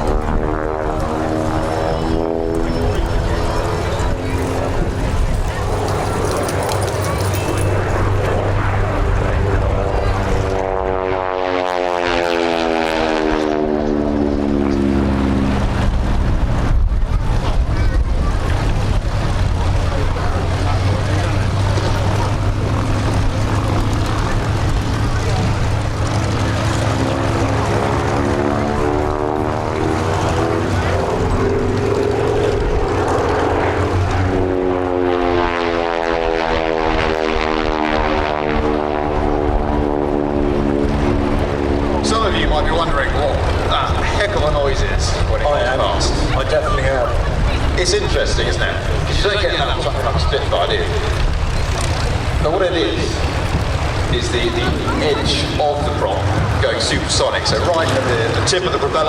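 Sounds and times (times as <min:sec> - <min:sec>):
propeller plane flying past: 0:00.0 - 0:59.0.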